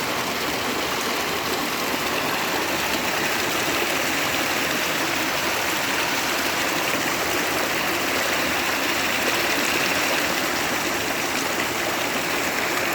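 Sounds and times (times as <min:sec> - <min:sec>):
stream rushing water: 0:00.0 - 0:12.9.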